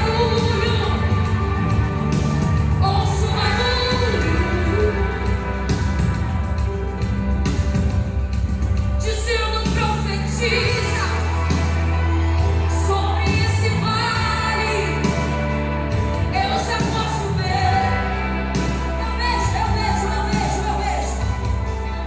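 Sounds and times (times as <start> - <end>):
person singing: 0.0 - 7.1, 9.0 - 22.0
band playing worship song: 0.0 - 22.0.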